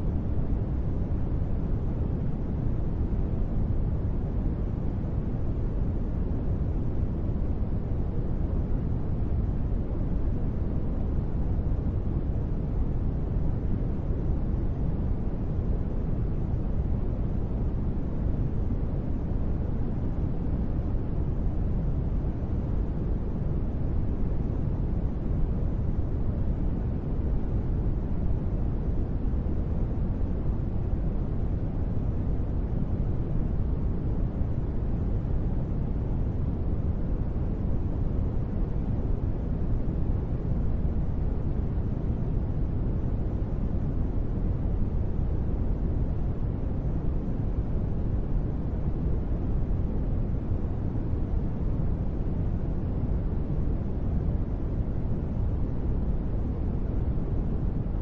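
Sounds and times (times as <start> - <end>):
gentle rain white noise: 0.0 - 58.0.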